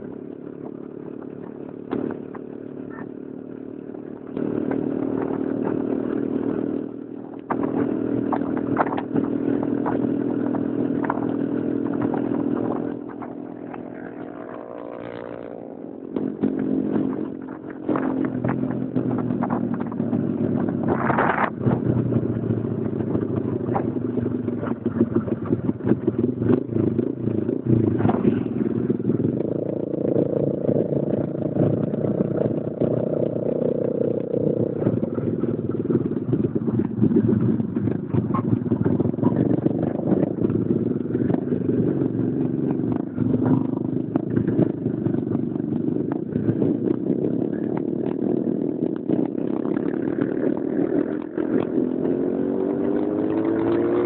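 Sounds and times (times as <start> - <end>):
motorcycle engine running: 0.0 - 54.0
wind buffeting microphone: 4.4 - 54.0.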